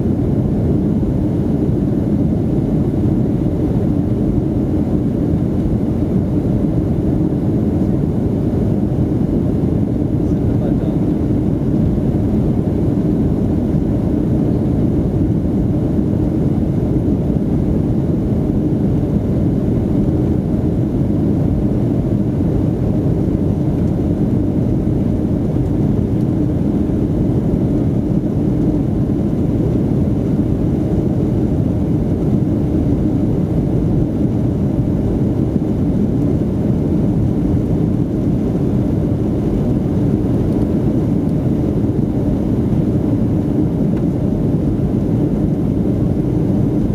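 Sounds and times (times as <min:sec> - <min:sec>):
aircraft cabin engine rumble: 0:00.0 - 0:46.9.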